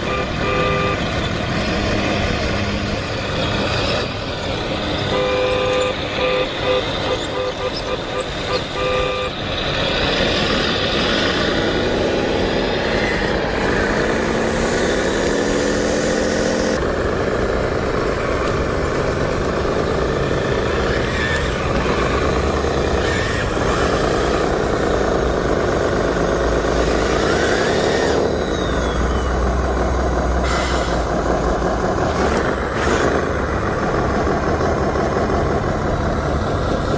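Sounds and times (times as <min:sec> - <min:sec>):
toy vehicle engines revving: 0:00.0 - 0:36.9.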